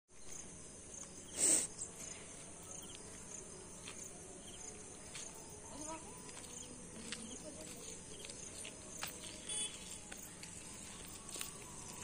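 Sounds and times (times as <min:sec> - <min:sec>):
faint insect chirps: 0:00.1 - 0:12.0.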